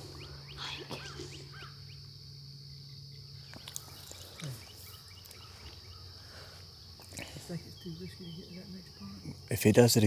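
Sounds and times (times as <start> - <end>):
bird chirps: 0.0 - 2.1, 2.7 - 6.9, 7.5 - 9.4
high-pitched insect drone: 0.0 - 10.0.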